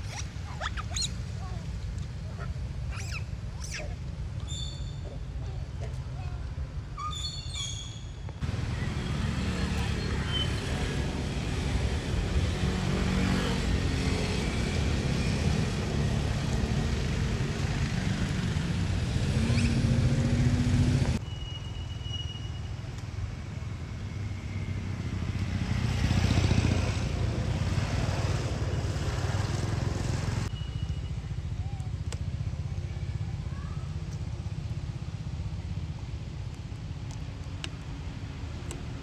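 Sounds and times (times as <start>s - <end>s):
vehicle engines rumbling: 0.0s - 21.2s, 22.7s - 39.0s.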